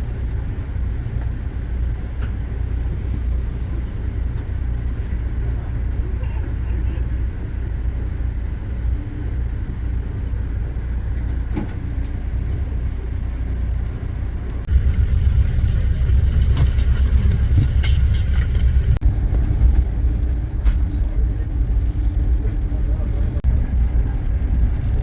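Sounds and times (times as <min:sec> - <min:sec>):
moving vehicle rumble: 0:00.0 - 0:25.0.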